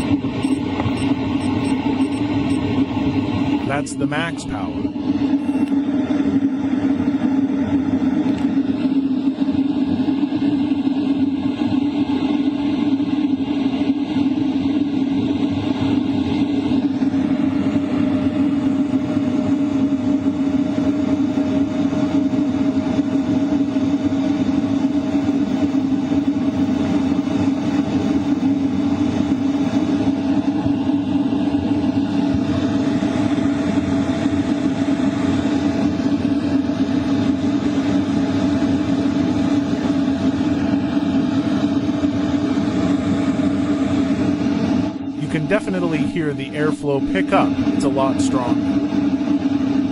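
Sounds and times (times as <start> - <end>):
blower whine: 0.0 - 49.9
heater air rushing: 0.0 - 49.9
low hum: 0.0 - 49.9.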